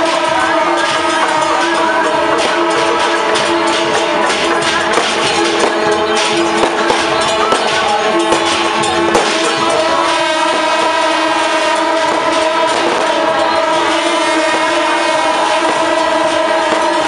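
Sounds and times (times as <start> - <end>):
dense din: 0.0 - 17.0
held horn-like notes: 0.0 - 17.0.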